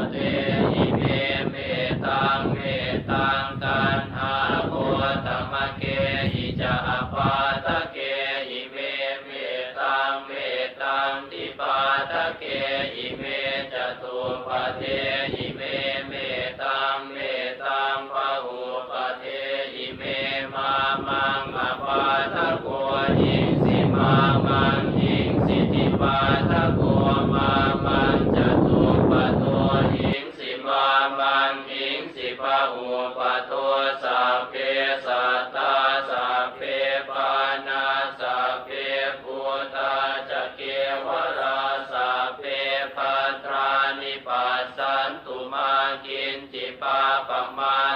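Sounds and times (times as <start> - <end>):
voices chanting in monotone: 0.0 - 47.9.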